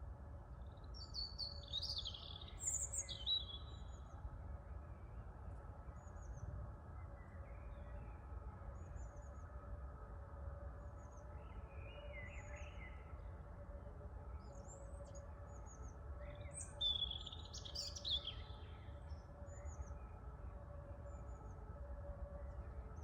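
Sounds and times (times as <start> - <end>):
songbirds chirping: 0.3 - 23.0.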